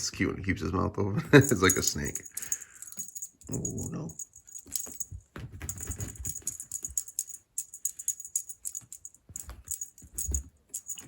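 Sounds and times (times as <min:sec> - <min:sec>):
cat toy jingling and rattling: 0:01.4 - 0:11.0.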